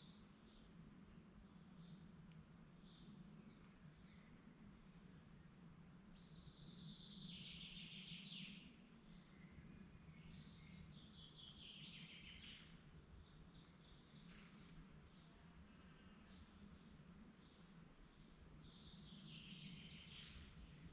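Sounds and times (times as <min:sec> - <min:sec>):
songbird song: 0:00.0 - 0:20.9.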